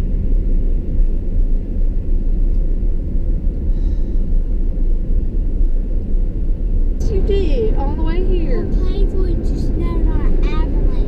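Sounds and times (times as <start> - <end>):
engine and road noise in cabin: 0.0 - 11.0.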